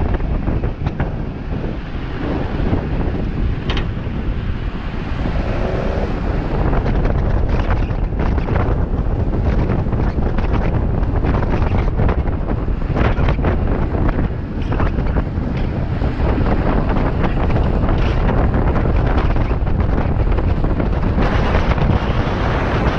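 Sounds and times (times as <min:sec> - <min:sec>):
skateboard wheels rolling on asphalt: 0:00.0 - 0:22.9
wind buffeting microphone: 0:00.0 - 0:22.9.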